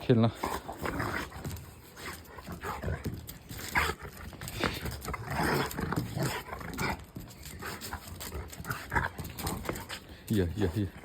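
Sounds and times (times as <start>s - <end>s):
dogs playing rough: 0.0s - 11.0s.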